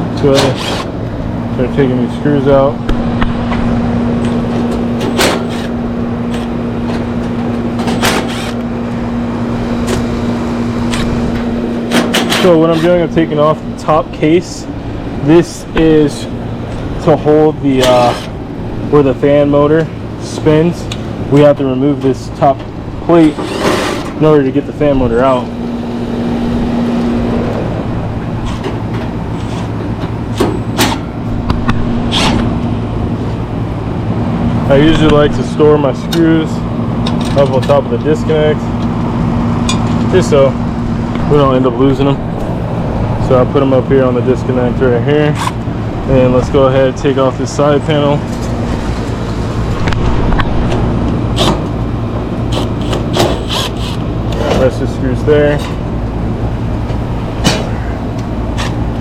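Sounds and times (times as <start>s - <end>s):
machine hum: 0.0s - 59.0s.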